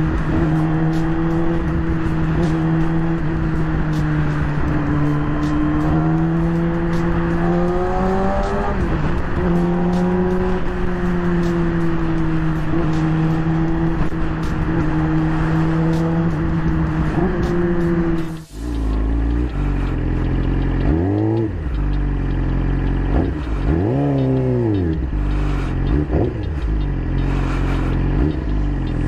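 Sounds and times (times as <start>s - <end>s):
motorcycle engine: 0.0s - 29.0s.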